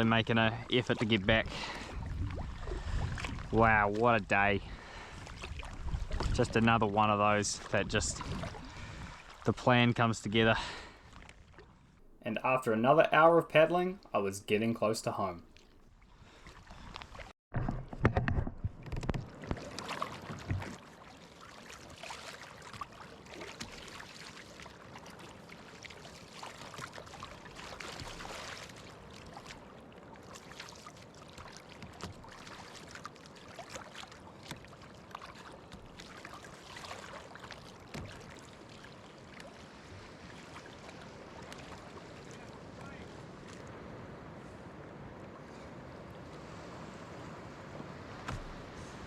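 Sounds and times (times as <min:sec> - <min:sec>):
water washing along hull: 0:00.0 - 0:12.9, 0:18.8 - 0:49.0
paddle strokes splashing: 0:01.0 - 0:04.1, 0:04.7 - 0:06.8, 0:07.5 - 0:09.6, 0:10.6 - 0:12.6, 0:14.6 - 0:17.3, 0:18.8 - 0:49.0.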